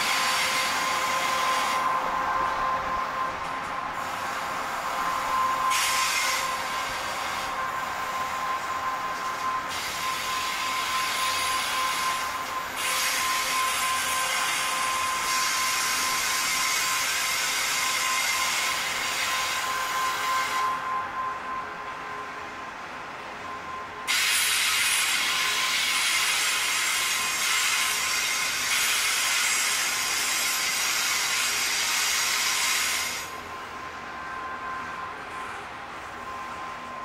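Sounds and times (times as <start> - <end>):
high-pitched wheel whine: 0.0 - 37.0
train wheels rolling on rails: 0.0 - 37.0.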